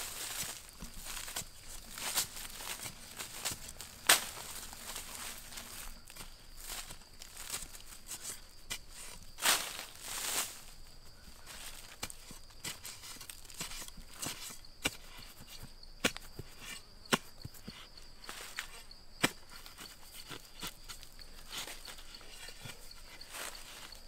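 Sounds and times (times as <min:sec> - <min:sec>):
digging tool scraping soil: 0:00.0 - 0:24.0
soil crumbling: 0:00.0 - 0:24.0.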